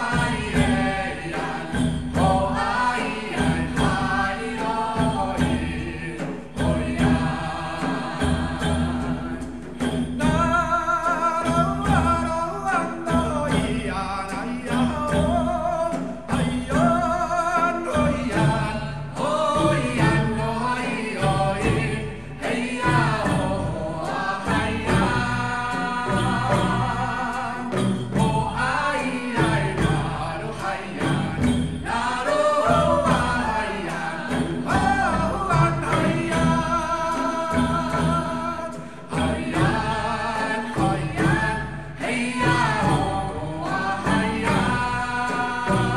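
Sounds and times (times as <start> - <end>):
music with singing voices: 0.0 - 45.9
steady percussive beat: 0.0 - 45.9.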